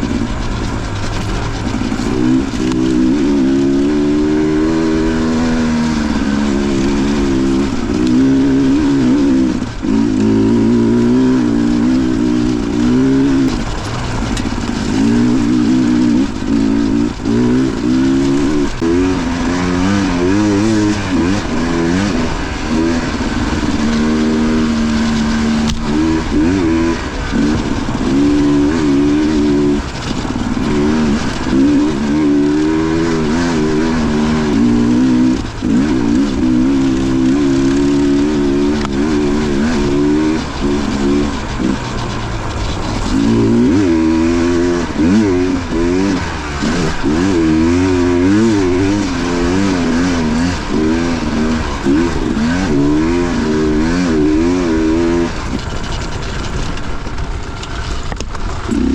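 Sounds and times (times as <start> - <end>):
dirt bike engine under load: 0.0 - 58.9.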